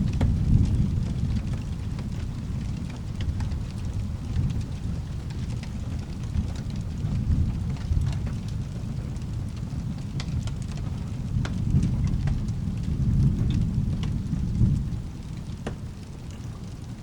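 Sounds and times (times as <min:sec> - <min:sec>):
low rolling thunder: 0:00.0 - 0:17.0
steady rain: 0:00.0 - 0:17.0.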